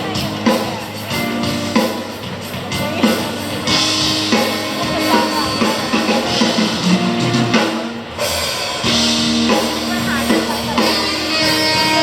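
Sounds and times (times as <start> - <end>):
drum kit playing: 0.0 - 12.0
keyboard chords: 0.0 - 12.0
sustained guitar chords: 0.0 - 12.0.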